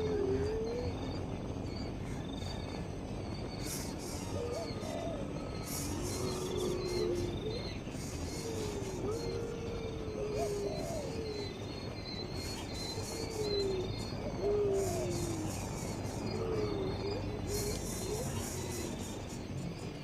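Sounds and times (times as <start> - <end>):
low whistled bird calls: 0.0 - 20.0.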